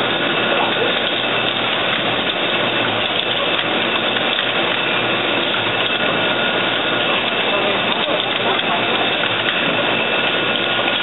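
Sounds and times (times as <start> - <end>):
assembly machine running: 0.0 - 11.0.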